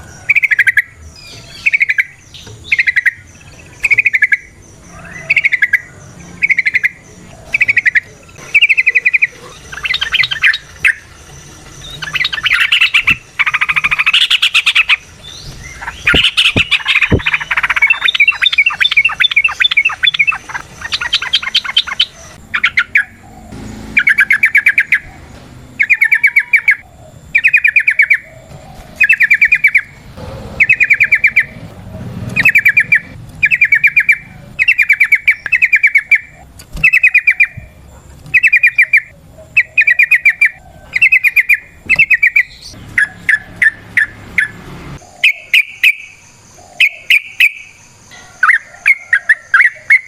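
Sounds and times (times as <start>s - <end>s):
bird chattering song: 0.0s - 50.0s.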